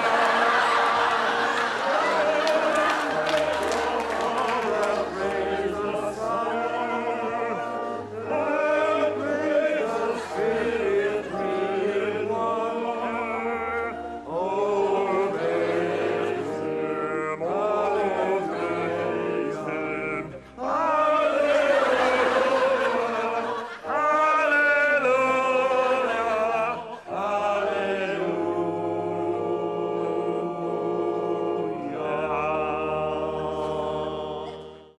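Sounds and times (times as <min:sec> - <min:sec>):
congregation singing a hymn: 0:00.0 - 0:35.0.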